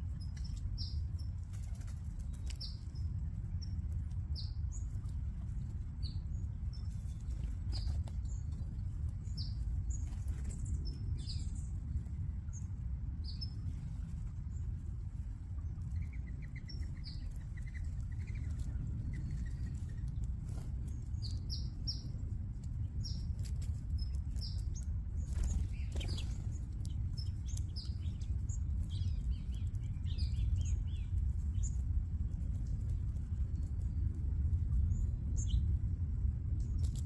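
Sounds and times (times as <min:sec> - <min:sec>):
songbirds chirping: 0:00.0 - 0:37.0
steady low rumble: 0:00.0 - 0:37.0.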